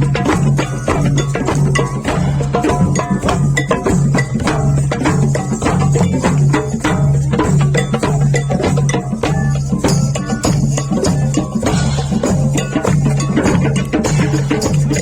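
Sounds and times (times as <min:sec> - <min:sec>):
dense clicking percussion: 0:00.0 - 0:15.0.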